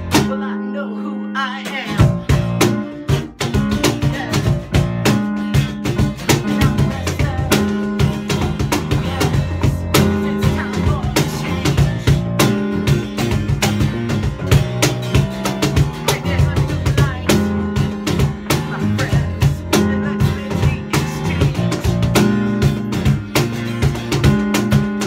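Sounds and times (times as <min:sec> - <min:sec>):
drum kit beat: 0:00.0 - 0:00.5, 0:01.7 - 0:25.0
electric guitar: 0:00.0 - 0:25.0.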